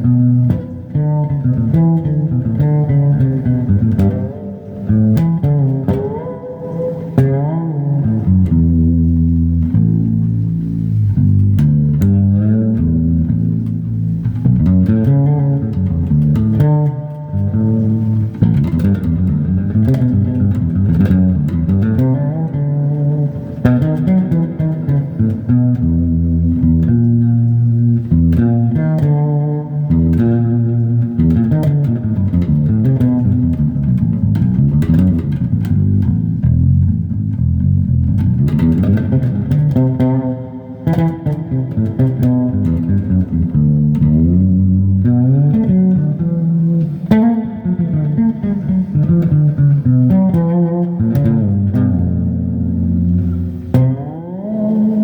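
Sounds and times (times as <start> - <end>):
fretless bass guitar plucked: 0.0 - 55.0.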